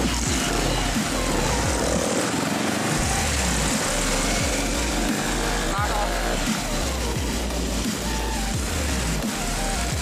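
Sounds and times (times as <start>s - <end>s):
background music: 0.0s - 10.0s
motorcycle engine: 0.0s - 10.0s.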